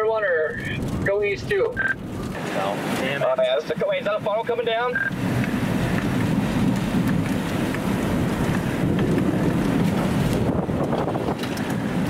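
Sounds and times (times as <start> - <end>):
strong wind buffeting microphone: 0.0 - 12.0
vehicle low rumble: 0.0 - 12.0.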